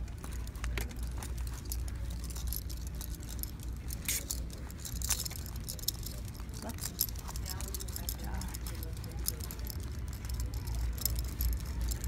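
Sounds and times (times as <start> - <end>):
steady low rumble: 0.0 - 12.0
metal harness buckles jingling: 0.2 - 12.0.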